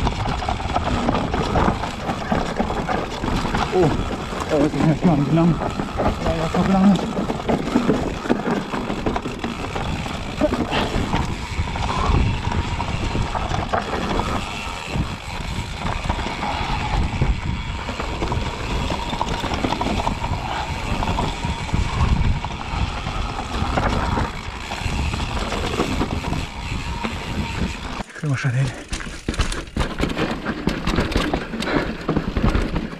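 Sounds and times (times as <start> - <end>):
bike rattling and knocking: 0.0 - 32.9
bike tyres rumbling over dirt: 0.0 - 32.9.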